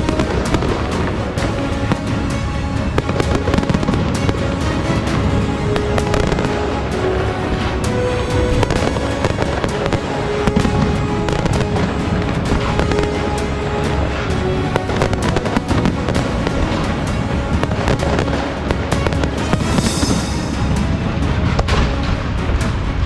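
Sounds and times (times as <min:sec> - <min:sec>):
music of held notes: 0:00.0 - 0:23.0.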